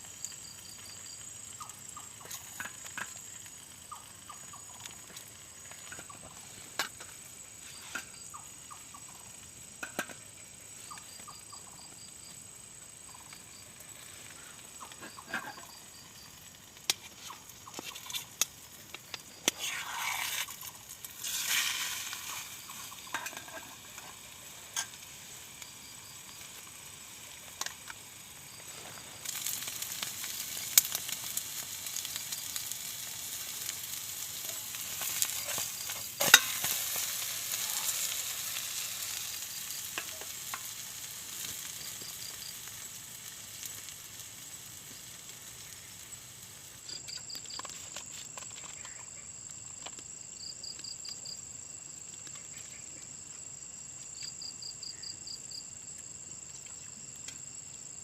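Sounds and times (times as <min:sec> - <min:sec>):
food sizzling in a pan: 0:00.0 - 0:53.6.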